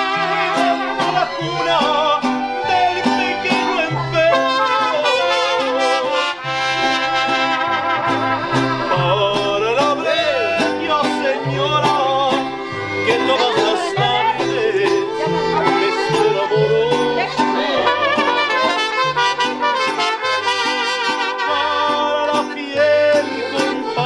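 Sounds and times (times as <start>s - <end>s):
deep bass guitar: 0.0s - 20.4s, 21.5s - 24.0s
mariachi band playing: 0.0s - 24.0s
strummed vihuela: 0.0s - 24.0s.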